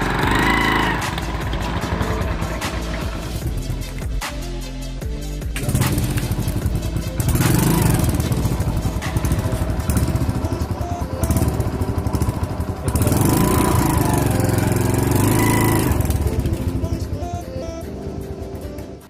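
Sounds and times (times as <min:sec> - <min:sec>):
motorcycle engine running: 0:00.0 - 0:04.3, 0:05.0 - 0:19.0.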